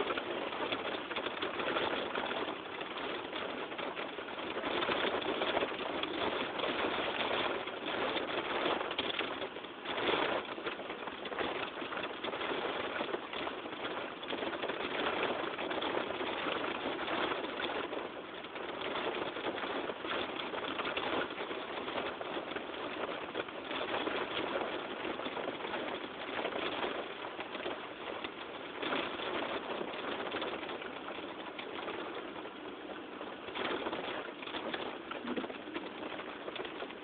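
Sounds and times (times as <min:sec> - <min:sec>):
heavy rain on a car: 0:00.0 - 0:37.0.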